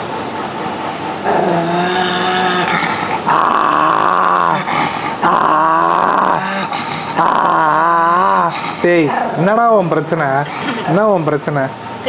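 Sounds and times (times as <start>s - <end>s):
dog growling: 1.1s - 11.8s.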